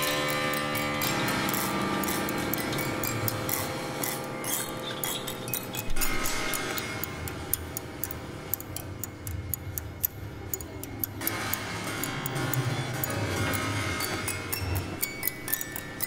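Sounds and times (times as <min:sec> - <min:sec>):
balls ticking on strings: 0:00.0 - 0:16.0.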